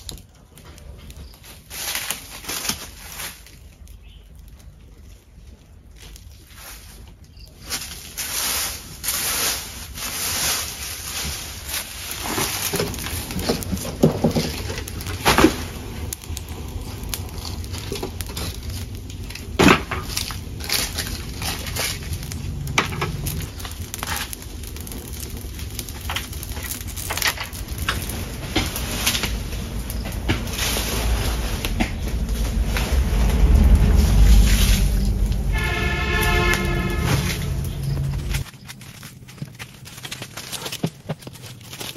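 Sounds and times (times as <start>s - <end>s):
bonfire crackling and popping: 0.0s - 41.9s
rustle of debris being handled: 0.0s - 41.9s.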